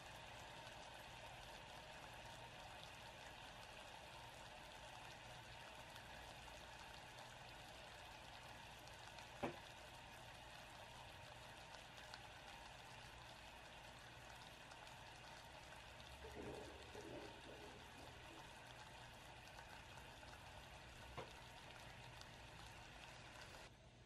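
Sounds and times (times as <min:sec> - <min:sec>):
sugar syrup bubbling in saucepan: 0:00.0 - 0:23.8.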